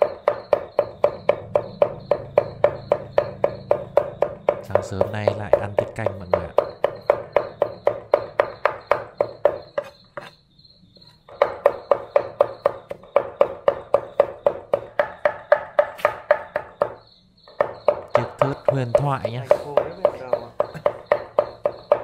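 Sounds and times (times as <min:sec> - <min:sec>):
cleaver chopping on wooden block: 0:00.0 - 0:10.4, 0:11.3 - 0:22.0.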